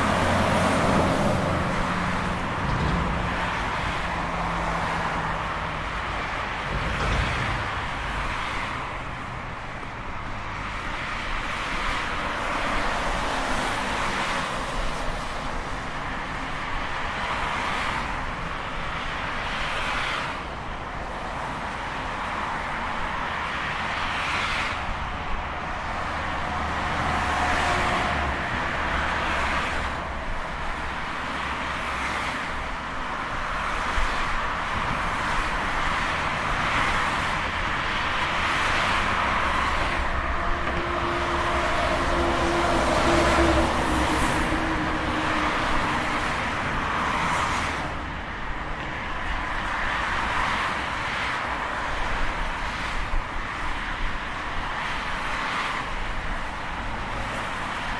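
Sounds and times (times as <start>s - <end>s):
cars passing on highway: 0.0s - 57.9s
low traffic rumble: 0.0s - 57.9s.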